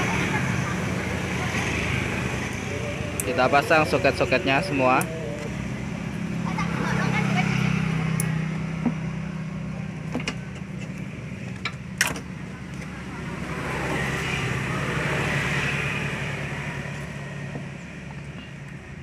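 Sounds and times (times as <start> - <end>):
vehicle passing: 0.0 - 10.0, 12.6 - 18.2.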